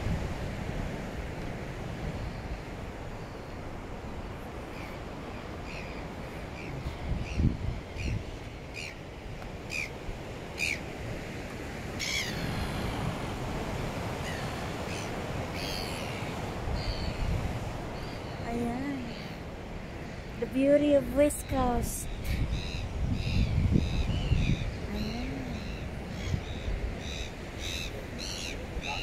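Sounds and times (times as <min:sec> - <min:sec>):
wind: 0:00.0 - 0:29.0
wind rumble on microphone: 0:00.0 - 0:29.0.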